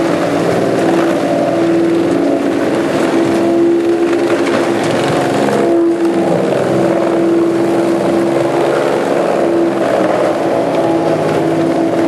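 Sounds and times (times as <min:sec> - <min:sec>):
wood being shredded: 0:00.0 - 0:12.0
wood chipper running: 0:00.0 - 0:12.0.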